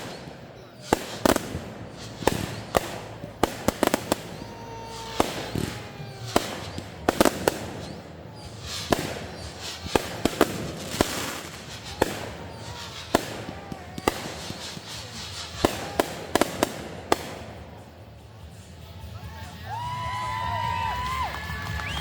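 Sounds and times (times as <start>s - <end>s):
firework falling whistle: 0.0s - 17.8s
firework hissing crackle: 0.0s - 22.0s
fireworks bangs and pops: 0.0s - 22.0s.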